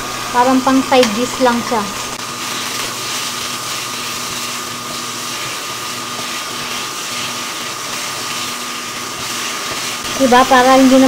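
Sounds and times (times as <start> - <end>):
constant high whine: 0.0 - 11.0
stir-frying hiss in a wok: 0.0 - 11.0.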